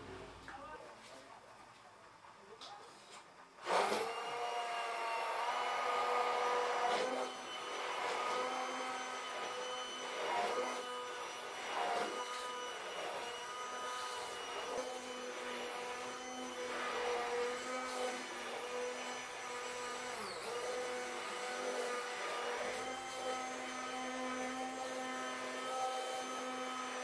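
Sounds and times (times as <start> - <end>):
immersion blender motor whine: 3.6 - 27.0.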